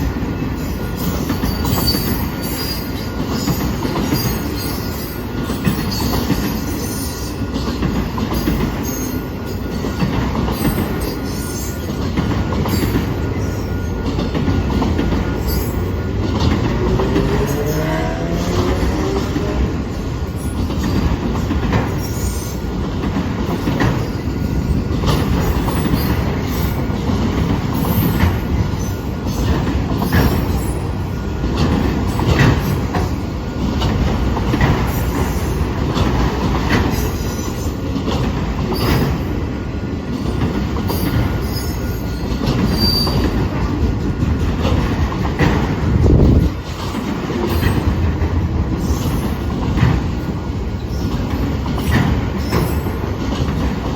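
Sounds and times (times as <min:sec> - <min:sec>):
train rumbling past: 0:00.0 - 0:53.9
wheel squeal on rails: 0:00.5 - 0:22.8, 0:23.5 - 0:39.4, 0:40.2 - 0:53.7.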